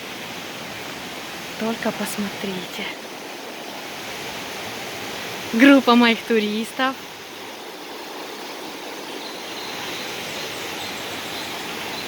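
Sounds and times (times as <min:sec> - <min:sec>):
river and waterfalls rushing: 0:00.0 - 0:12.0.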